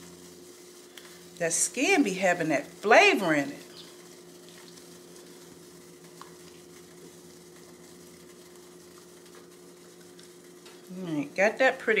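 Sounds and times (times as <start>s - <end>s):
soft hiss: 0.0s - 12.0s
steady low hum: 0.0s - 12.0s.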